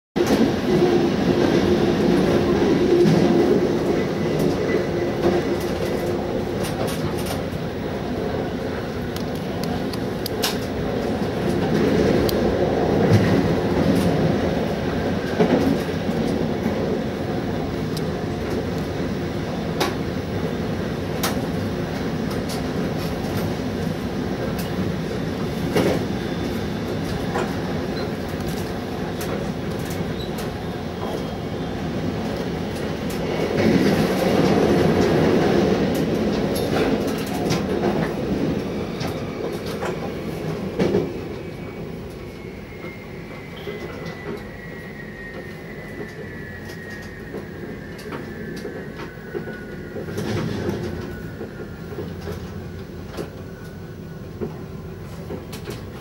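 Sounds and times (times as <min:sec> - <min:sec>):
train wheels rumbling on rail: 0:00.2 - 0:56.0.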